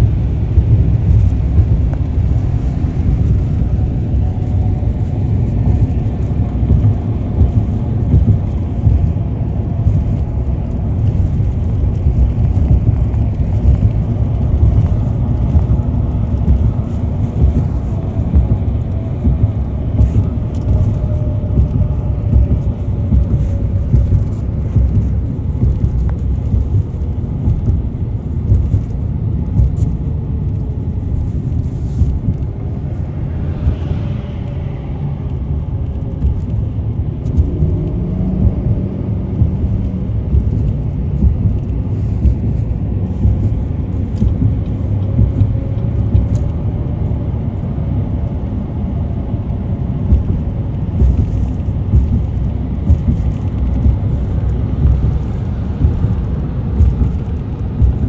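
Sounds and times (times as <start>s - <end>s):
car driving on road: 0.0s - 58.0s.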